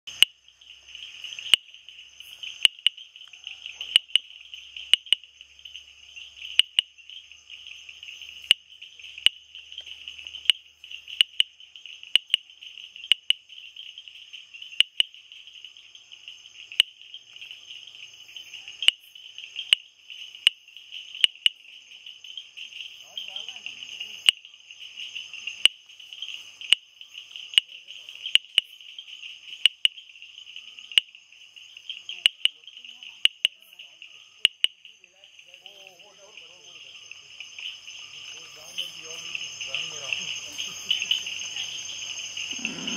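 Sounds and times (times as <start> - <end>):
frog calling with sharp clicks: 0.1 - 42.9
high-pitched insect trill: 0.1 - 42.9.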